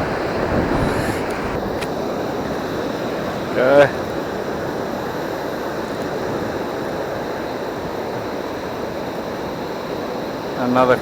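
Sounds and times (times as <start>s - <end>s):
surf washing on beach: 0.0s - 11.0s
wind: 0.0s - 11.0s.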